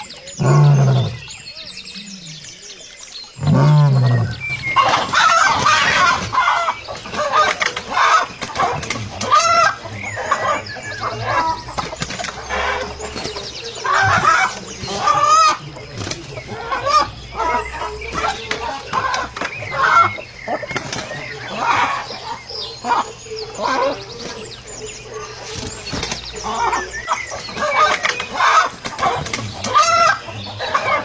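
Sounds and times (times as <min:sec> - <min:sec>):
chickens clucking: 0:04.3 - 0:31.0.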